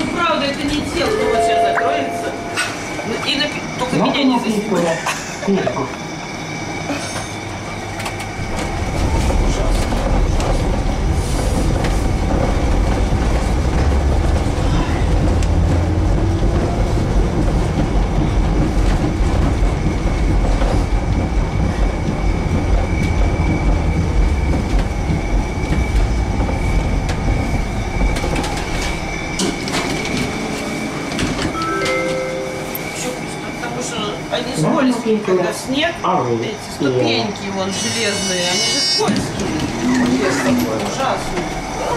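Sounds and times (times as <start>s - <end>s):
tram wheels rumbling on rails: 0.0s - 41.9s.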